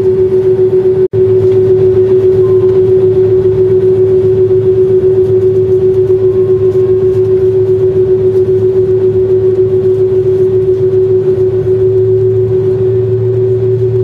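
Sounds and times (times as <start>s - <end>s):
airliner cabin hum: 0.0s - 14.0s
low rumble: 0.0s - 14.0s.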